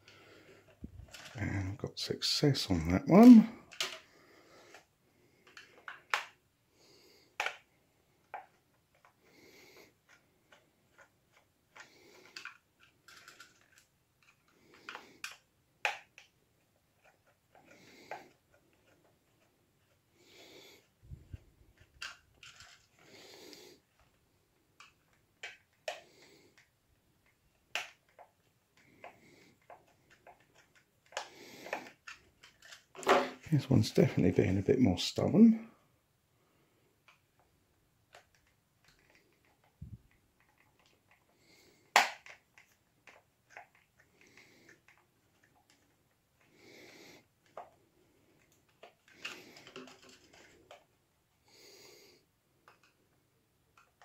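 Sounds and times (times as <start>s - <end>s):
plastic model being handled: 0.1s - 6.5s, 7.3s - 9.2s, 9.8s - 20.1s, 20.8s - 23.1s, 23.8s - 35.5s, 37.0s - 46.5s, 47.2s - 51.4s, 52.6s - 54.0s.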